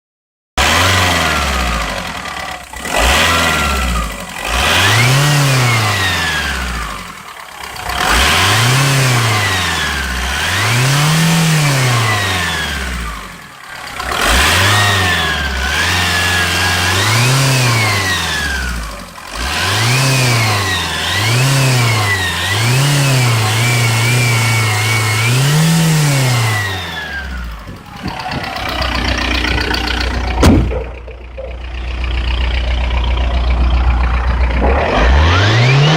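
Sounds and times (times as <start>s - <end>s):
diesel engine revving: 0.6s - 35.9s.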